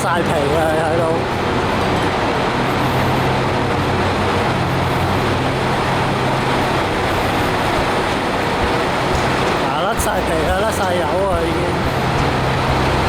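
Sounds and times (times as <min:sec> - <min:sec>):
diesel train engines idling: 0:00.0 - 0:13.0.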